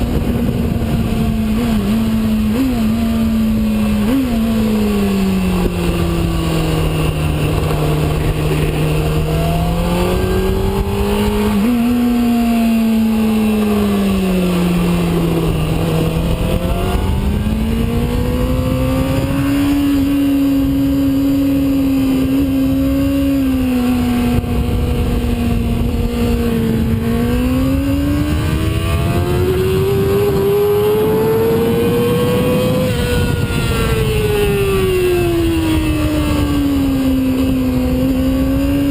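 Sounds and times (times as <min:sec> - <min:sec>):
low rush of wind: 0:00.0 - 0:38.9
sport bike engine revving: 0:00.0 - 0:38.9.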